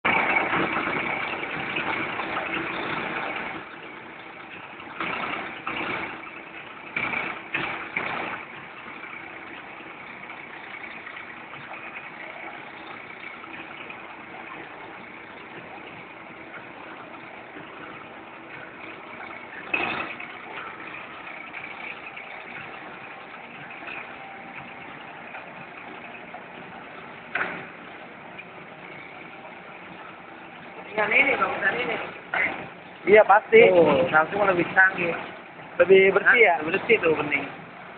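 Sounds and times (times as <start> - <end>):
bursts of machine noise: 0.0 - 37.9
packaging machine humming: 0.0 - 37.9.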